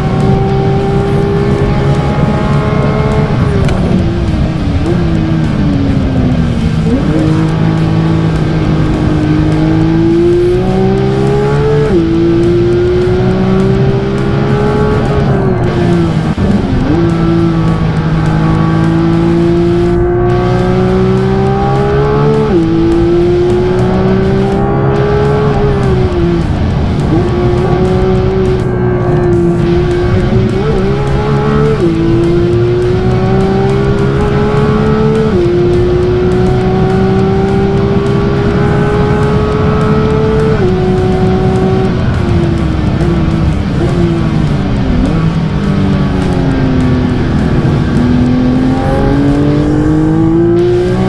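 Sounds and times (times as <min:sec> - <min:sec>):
car engine revving with upshifts: 0:00.0 - 0:51.0.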